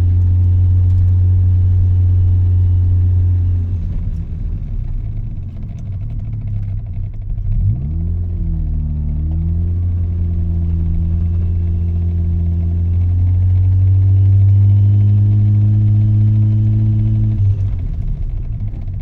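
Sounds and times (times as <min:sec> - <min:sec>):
rotary engine droning: 0:00.0 - 0:19.0.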